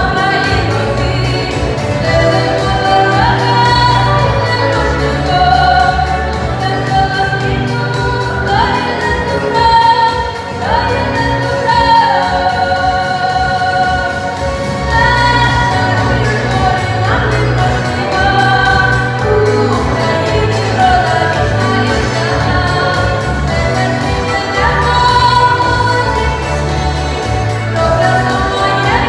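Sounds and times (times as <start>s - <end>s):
instrumental accompaniment with bass: 0.0s - 29.0s
person singing: 0.0s - 29.0s.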